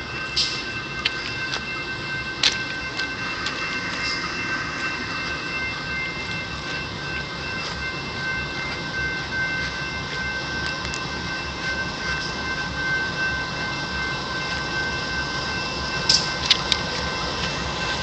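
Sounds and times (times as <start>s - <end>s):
constant high-pitched tones: 0.0s - 18.0s
diesel locomotive idling: 0.0s - 18.0s.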